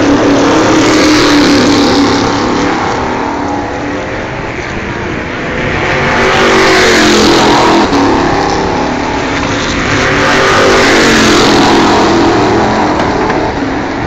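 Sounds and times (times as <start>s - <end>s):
race cars passing at high revs: 0.0s - 14.0s.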